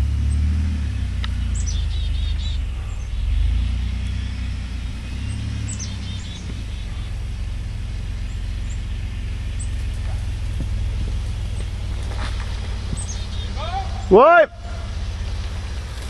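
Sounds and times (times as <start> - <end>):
birds chirping: 0.0 - 16.0
truck engine running: 0.0 - 16.0.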